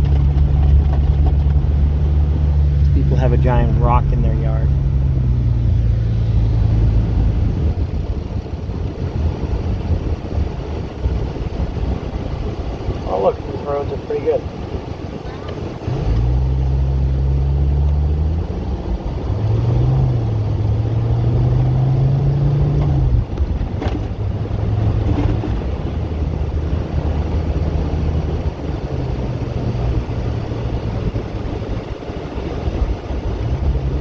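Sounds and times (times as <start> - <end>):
diesel engine running: 0.0 - 34.0
road noise: 0.0 - 34.0.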